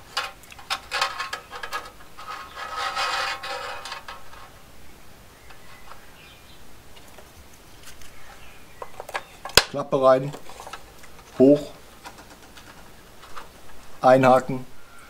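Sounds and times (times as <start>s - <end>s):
faint handling sounds: 0.0s - 14.5s.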